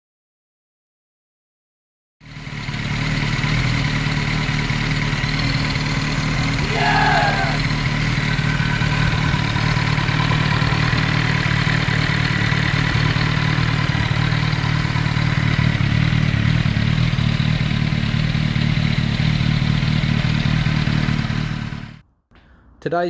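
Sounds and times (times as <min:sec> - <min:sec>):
motorcycle engine idling: 0:02.2 - 0:22.0.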